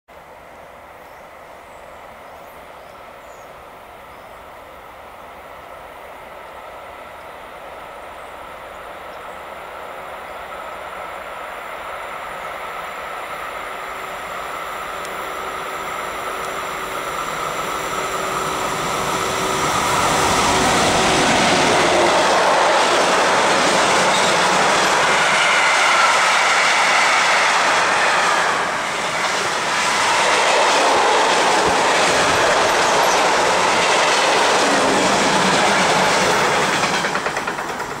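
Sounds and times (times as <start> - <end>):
freight train passing: 0.1 - 38.0.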